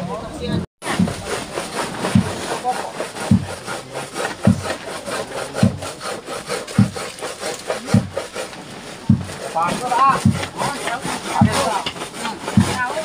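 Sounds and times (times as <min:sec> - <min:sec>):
hand saw cutting wood: 0:00.8 - 0:13.0.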